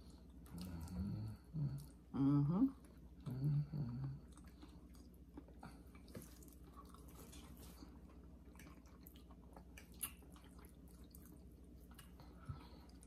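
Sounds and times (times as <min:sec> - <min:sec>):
chewing and wet mouth noises: 0:00.0 - 0:02.1, 0:02.8 - 0:13.0
low steady hum: 0:00.0 - 0:13.0.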